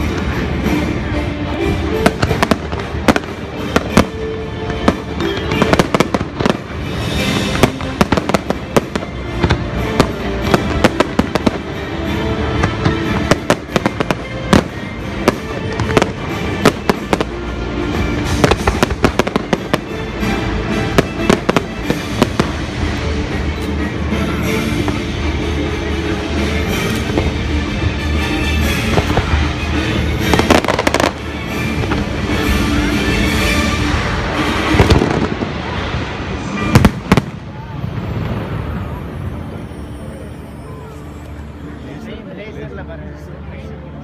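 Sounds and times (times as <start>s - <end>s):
loud soundtrack music: 0.0s - 38.4s
fireworks bangs and cracks: 0.0s - 39.7s.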